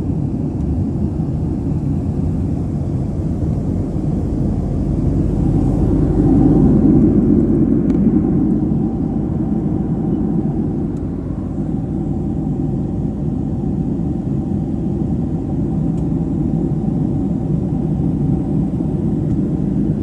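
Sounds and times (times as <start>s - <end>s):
faint steady hum: 0.0s - 20.0s
jet engines and rushing air: 0.0s - 20.0s.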